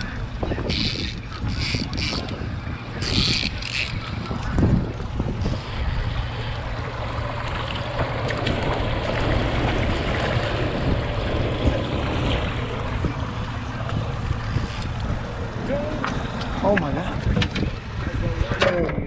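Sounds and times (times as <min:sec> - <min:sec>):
water and boat noise: 0:00.0 - 0:19.0
wind rumble on microphone: 0:00.0 - 0:19.0.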